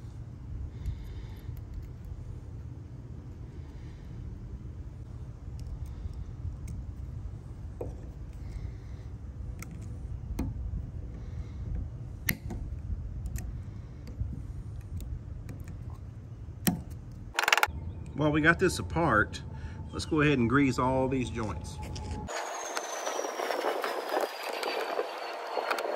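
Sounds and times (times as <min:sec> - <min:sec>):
low background rumble: 0:00.0 - 0:22.3.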